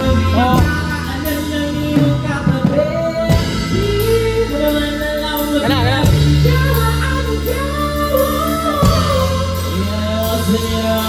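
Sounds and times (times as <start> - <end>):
bass and drums: 0.0 - 11.0
person singing long notes: 0.0 - 11.0.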